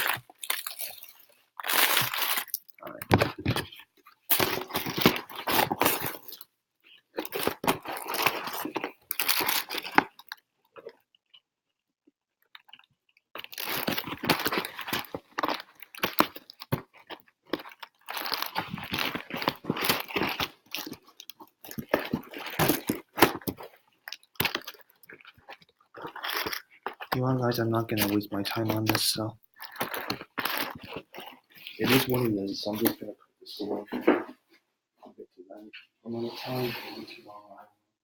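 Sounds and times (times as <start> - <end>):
rustling and crunching: 0.0 - 11.5, 12.3 - 34.2.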